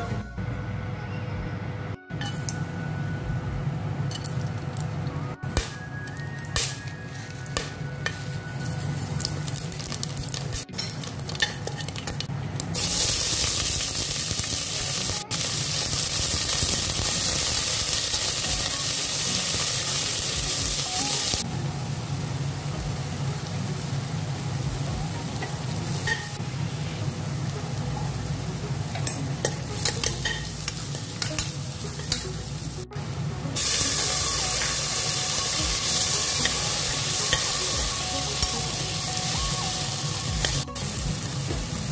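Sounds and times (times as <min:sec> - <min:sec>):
onions sizzling in hot oil: 0:08.2 - 0:41.9.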